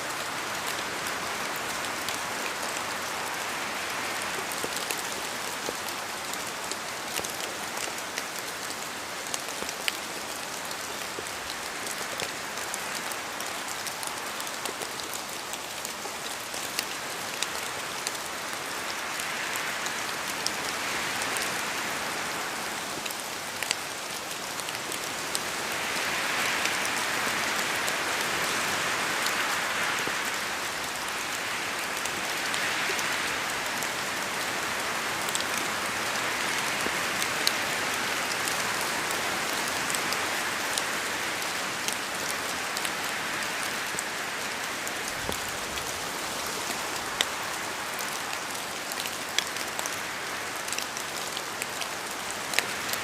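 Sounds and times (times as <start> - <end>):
rain falling in forest: 0.0 - 53.0.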